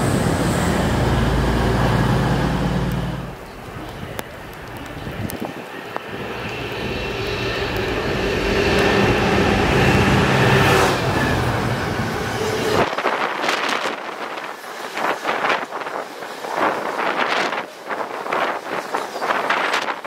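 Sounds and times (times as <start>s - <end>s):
diesel locomotive engine passing: 0.0s - 19.0s
rush of freight wagons: 0.0s - 20.0s.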